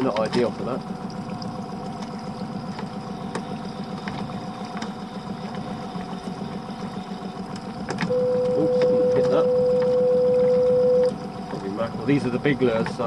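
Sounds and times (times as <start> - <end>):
outboard engine idling: 0.0 - 13.0.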